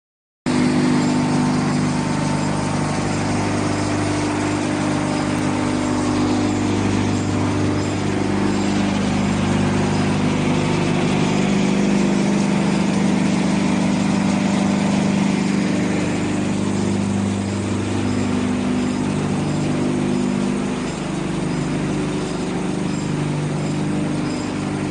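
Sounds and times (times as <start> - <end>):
machinery droning: 0.5 - 24.9.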